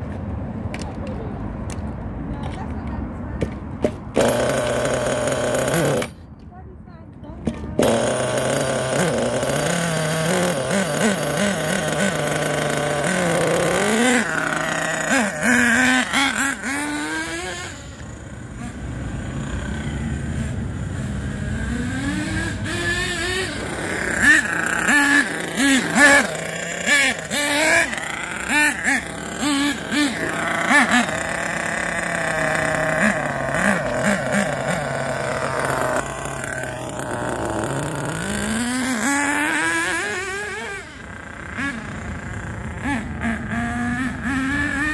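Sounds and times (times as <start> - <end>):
model car engine revving: 3.8 - 6.2, 7.5 - 44.9.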